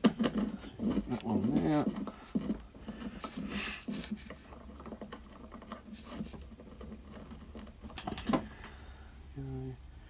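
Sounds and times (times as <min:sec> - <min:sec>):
low steady hum: 0:00.1 - 0:10.0.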